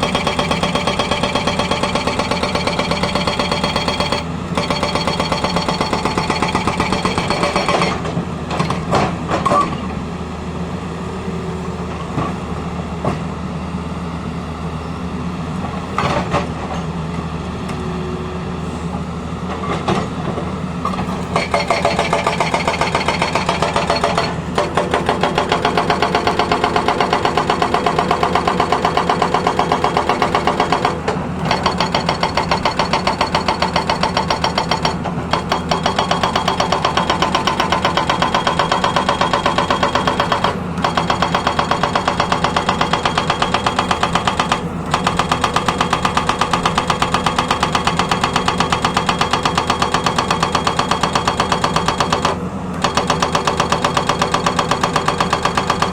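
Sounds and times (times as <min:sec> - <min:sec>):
hydraulic breaker hammering: 0:00.0 - 0:09.8, 0:20.8 - 0:55.9
excavator engine drone: 0:00.0 - 0:55.9.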